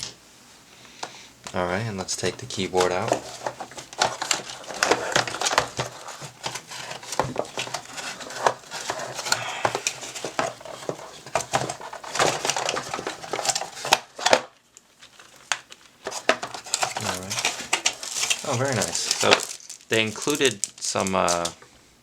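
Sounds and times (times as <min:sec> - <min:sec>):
packaging crinkling and rustling: 0:01.5 - 0:21.6.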